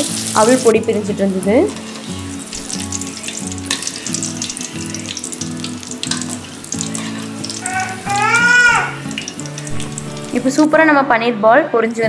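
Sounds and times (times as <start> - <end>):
food deep-frying in hot oil: 0.0 - 10.7
background music with low notes: 0.0 - 12.0.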